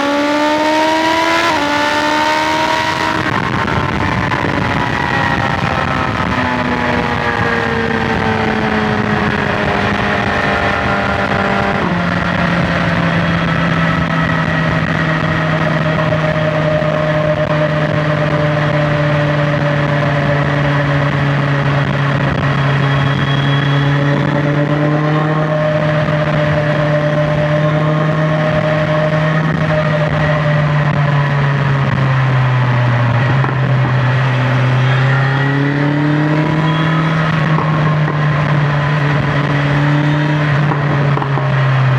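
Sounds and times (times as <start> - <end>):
motorcycle engine at speed: 0.0 - 41.9
wind noise: 0.0 - 41.9.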